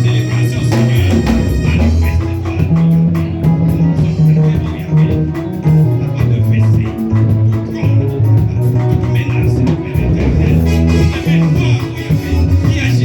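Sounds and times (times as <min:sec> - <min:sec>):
bass guitar: 0:00.0 - 0:13.0
drum kit beat: 0:00.0 - 0:13.0
guitar: 0:00.0 - 0:13.0.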